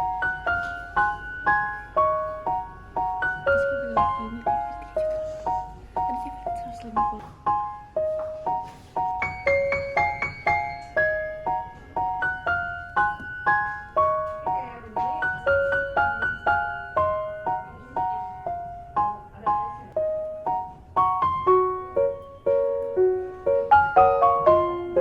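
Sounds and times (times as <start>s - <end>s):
light piano melody: 0.0s - 25.0s.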